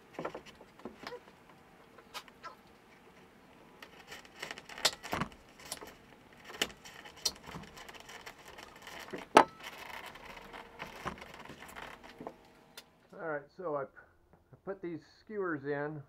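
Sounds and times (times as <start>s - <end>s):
skewers clicking and scraping in foam: 0.0s - 13.2s.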